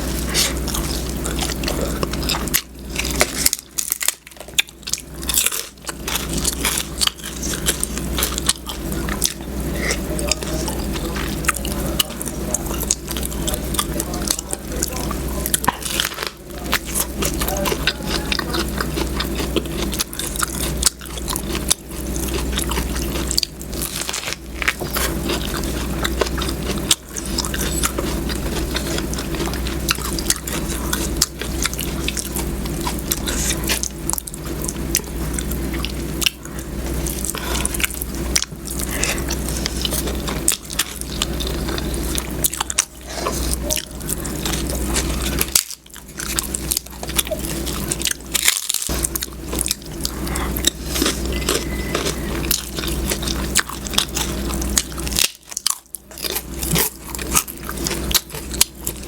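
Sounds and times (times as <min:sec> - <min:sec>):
person chewing food: 0:00.0 - 0:59.0
steady low hum: 0:00.0 - 0:59.0.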